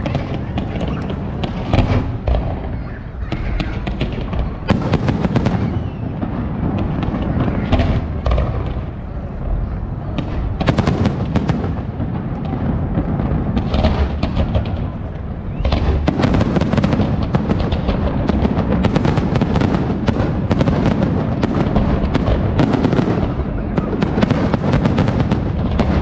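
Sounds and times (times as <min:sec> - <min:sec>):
sharp firework cracks: 0:00.0 - 0:09.1, 0:10.1 - 0:26.0
rumble of bursting fireworks: 0:00.0 - 0:26.0.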